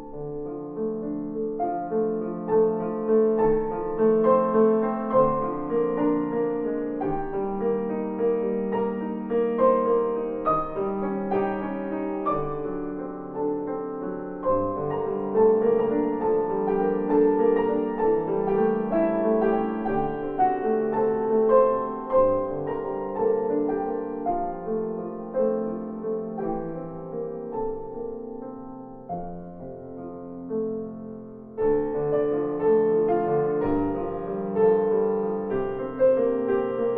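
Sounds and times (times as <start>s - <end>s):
gentle piano music: 0.0s - 36.9s.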